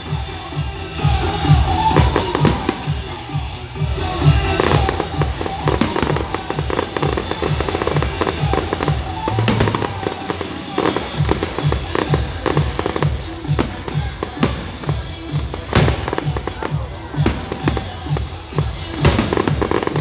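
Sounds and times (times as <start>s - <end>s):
fireworks bursting and crackling: 0.0s - 20.0s
music with bass beat: 0.0s - 20.0s.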